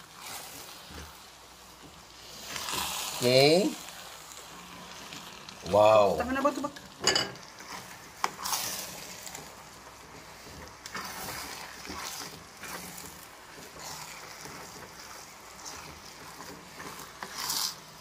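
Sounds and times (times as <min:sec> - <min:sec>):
spatula stirring wet rice in pot: 0:00.0 - 0:18.0.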